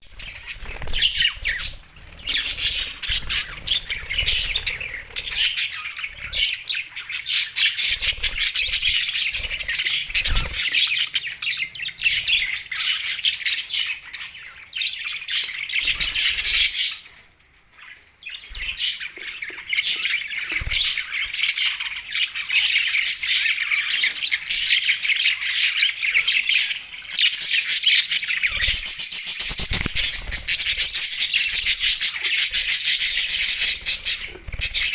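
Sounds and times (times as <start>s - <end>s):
budgerigars chattering: 0.1s - 14.0s, 18.6s - 34.9s.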